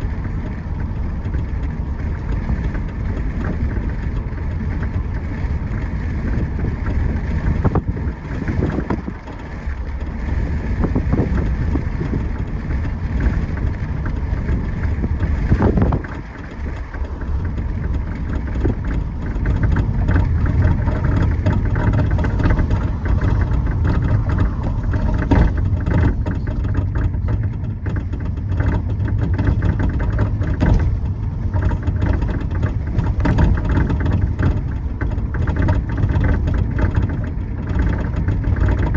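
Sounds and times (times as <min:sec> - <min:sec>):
car engine low rumble: 0:00.0 - 0:38.9
suspension clicking: 0:00.0 - 0:38.9.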